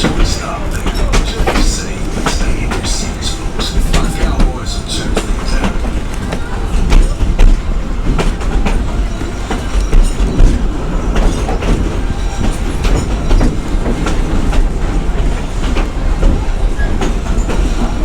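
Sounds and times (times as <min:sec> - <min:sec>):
train cars rumbling: 0:00.0 - 0:18.0
wheels clacking over rail joints: 0:00.0 - 0:18.0.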